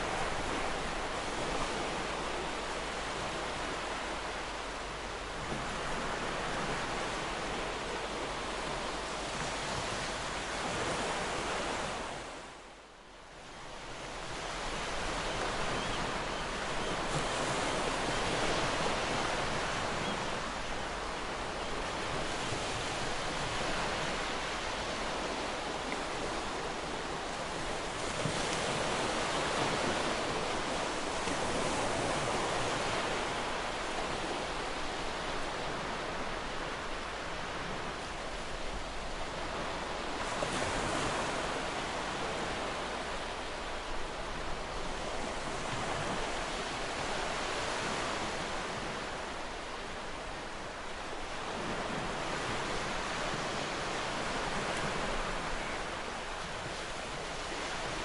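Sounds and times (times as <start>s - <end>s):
ocean waves on a beach: 0.0s - 58.0s.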